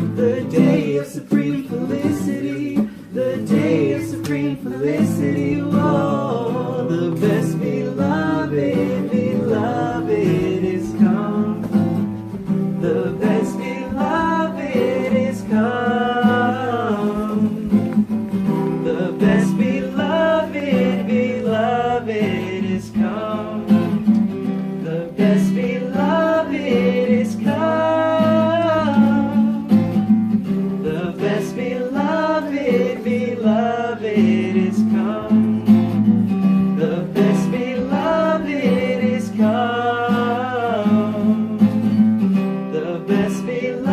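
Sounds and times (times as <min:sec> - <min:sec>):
person singing: 0:00.0 - 0:43.9
strummed acoustic guitar: 0:00.0 - 0:43.9.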